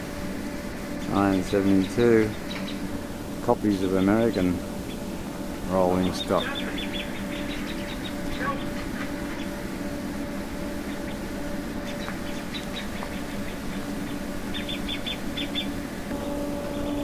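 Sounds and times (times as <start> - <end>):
rapid high chirps: 0.0 - 17.0
train idling hum: 0.0 - 17.0.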